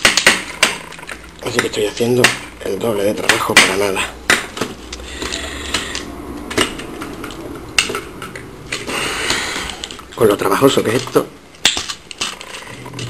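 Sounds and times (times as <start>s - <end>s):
toy figure rattling and scraping: 0.0s - 2.6s, 4.6s - 13.0s.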